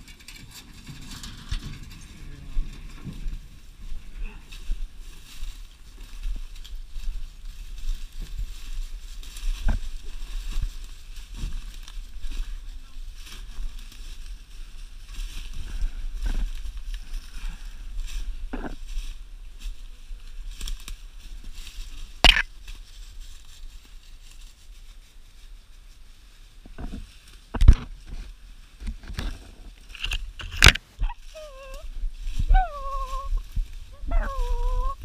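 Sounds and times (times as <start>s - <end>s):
low microphone rumble: 0.0s - 25.2s, 26.5s - 35.0s
footsteps crunching through leaves: 3.3s - 28.8s, 31.1s - 35.0s.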